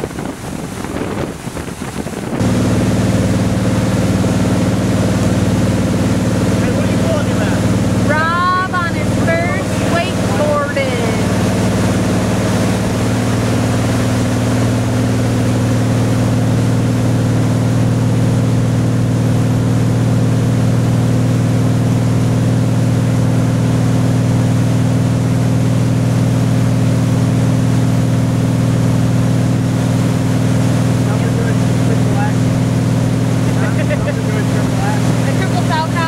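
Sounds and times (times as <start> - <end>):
boat engine running: 0.0 - 36.0
rush of water from wake: 0.0 - 36.0.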